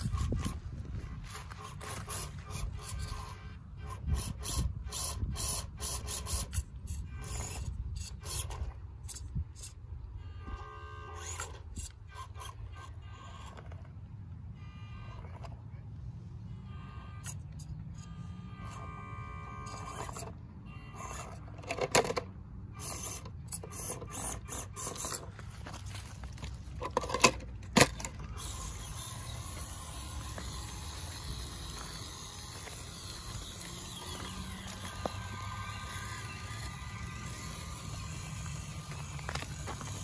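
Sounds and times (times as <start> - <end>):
toy car motor whining: 0.0 - 13.9, 14.6 - 15.7, 16.5 - 40.0.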